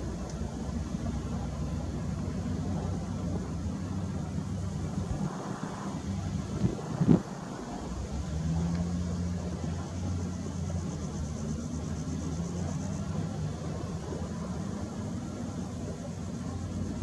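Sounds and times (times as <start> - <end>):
wheel loader diesel engine: 0.0 - 17.0.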